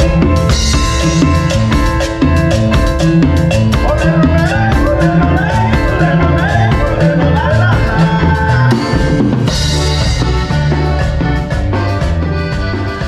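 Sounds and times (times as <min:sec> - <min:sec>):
band playing cumbia: 0:00.0 - 0:13.0.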